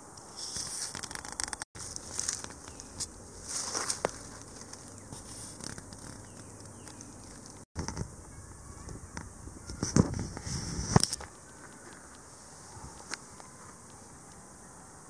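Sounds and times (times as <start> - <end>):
dry leaves and twigs crackling: 0.3 - 14.7.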